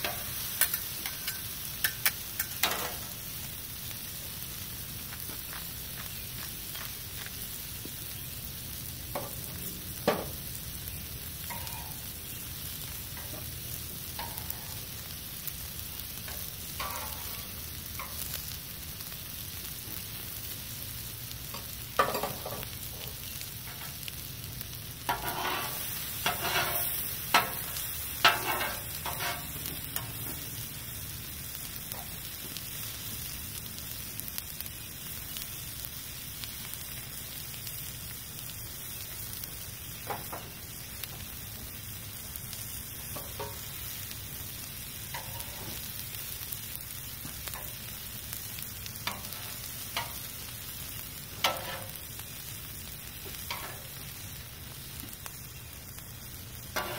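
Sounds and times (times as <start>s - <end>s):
vegetables sizzling on griddle: 0.0s - 56.9s.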